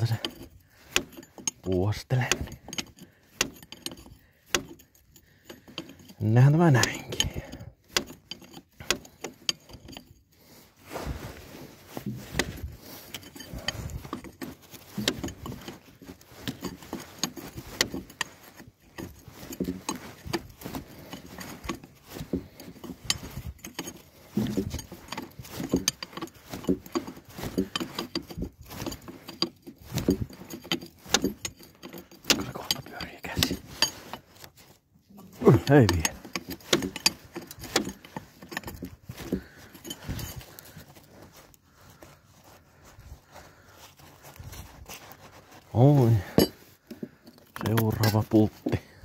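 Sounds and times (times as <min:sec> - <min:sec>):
metal hand tools clinking: 0:00.0 - 0:10.8, 0:11.4 - 0:42.2, 0:45.6 - 0:49.0.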